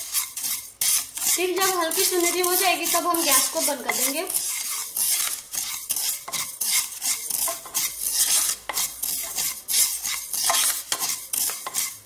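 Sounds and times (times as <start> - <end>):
seeds rustling against pan: 0.0 - 12.0
spatula scraping pan: 0.0 - 12.0.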